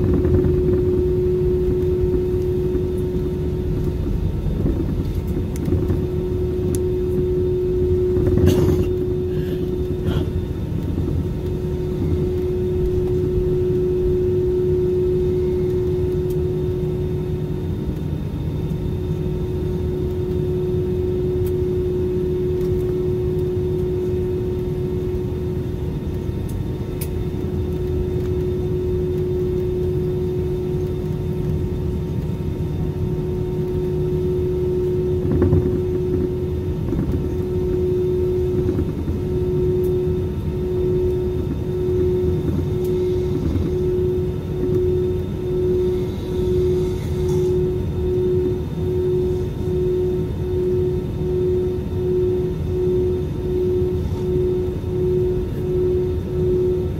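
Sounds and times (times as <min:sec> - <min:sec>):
jet engine drone: 0:00.0 - 0:56.9.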